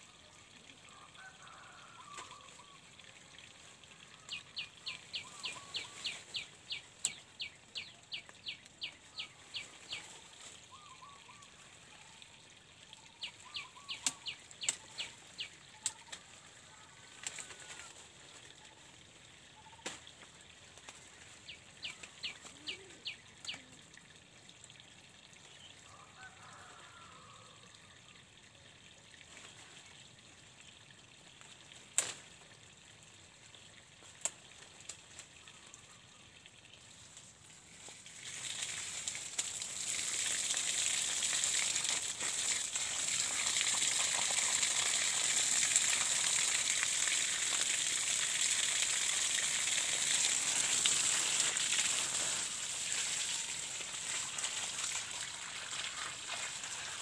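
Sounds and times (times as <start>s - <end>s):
garden hose spraying water: 0.0s - 27.4s, 28.2s - 57.0s.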